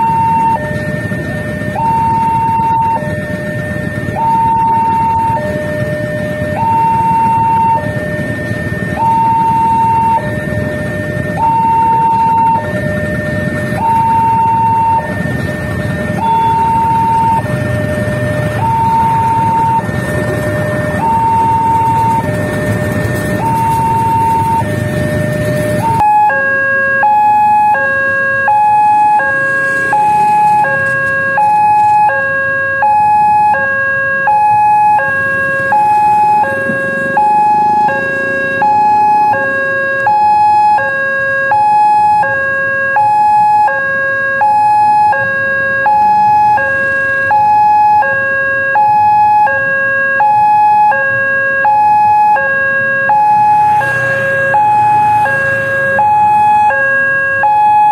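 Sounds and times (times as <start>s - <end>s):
crossing alarm two-note signal: 0.0s - 57.9s
heavy engine rumble: 0.0s - 57.9s
idling traffic: 0.0s - 57.9s.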